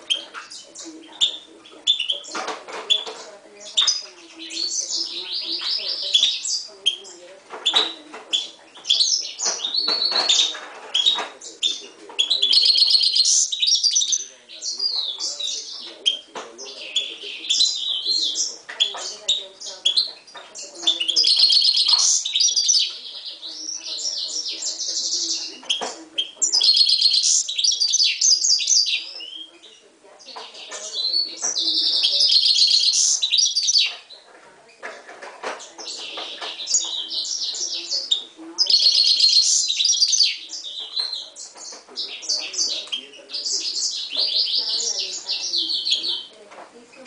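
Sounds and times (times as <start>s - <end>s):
bird singing twittering trills: 0.0s - 47.0s.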